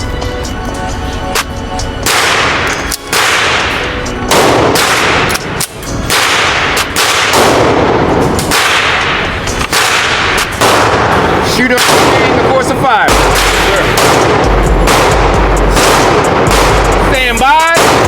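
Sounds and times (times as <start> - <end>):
handgun shots echoing: 2.0 - 18.0.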